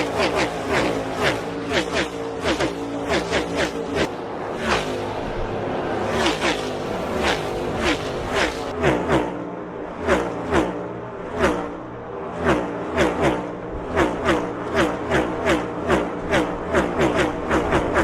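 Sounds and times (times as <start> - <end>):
race cars passing at speed: 0.0 - 18.0.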